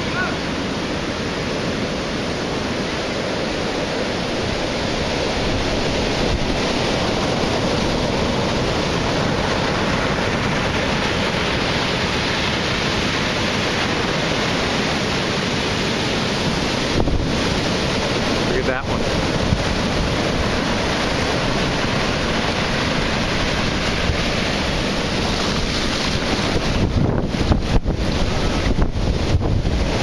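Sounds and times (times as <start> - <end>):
heavy surf crashing on pilings: 0.0 - 30.0.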